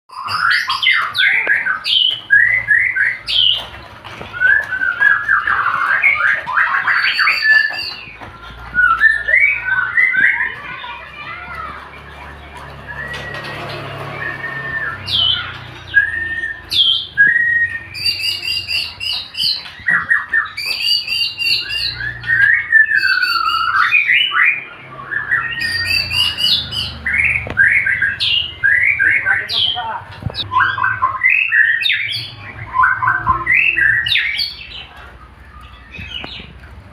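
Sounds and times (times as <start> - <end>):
bird singing whistled phrases: 0.1 - 3.6, 4.3 - 10.9, 12.8 - 29.8, 30.4 - 34.7.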